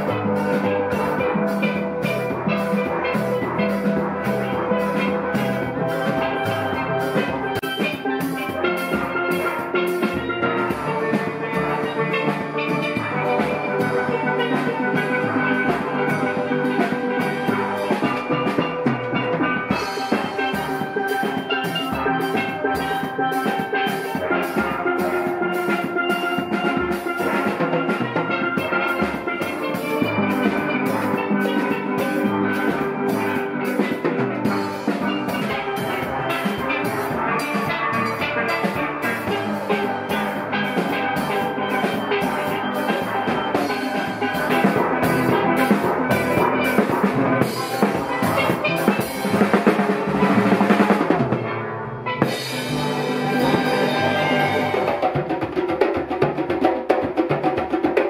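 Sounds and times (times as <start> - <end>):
hand drum beat: 0.0 - 58.0
steel pans playing melody: 0.0 - 58.0.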